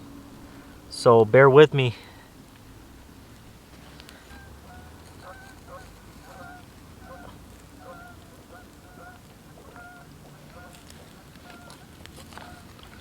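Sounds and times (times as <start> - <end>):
waterfowl honking: 0.0 - 13.0.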